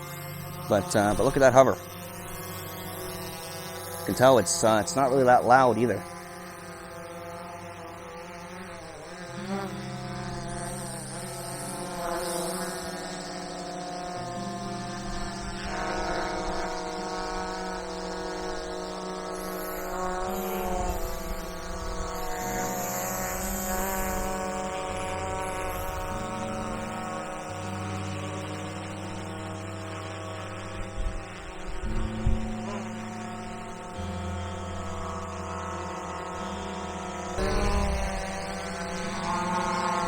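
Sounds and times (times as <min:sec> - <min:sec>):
drone propellers whirring: 0:00.0 - 0:40.0.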